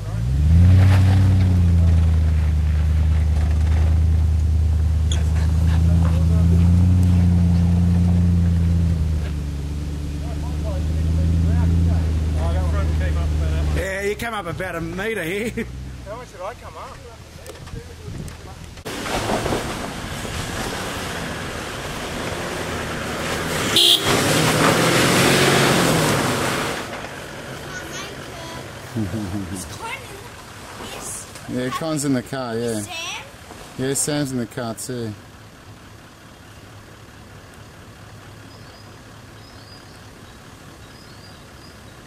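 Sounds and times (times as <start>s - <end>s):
diesel engine under load: 0.0s - 42.0s.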